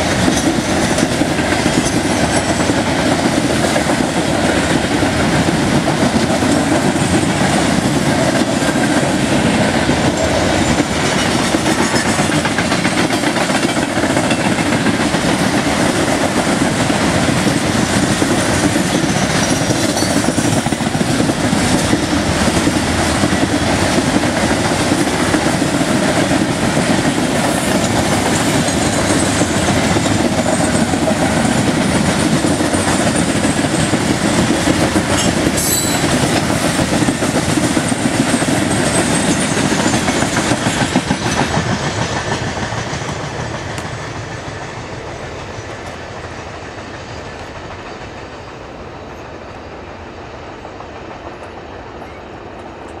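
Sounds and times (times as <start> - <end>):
train wheels clattering over rails: 0.0 - 53.0.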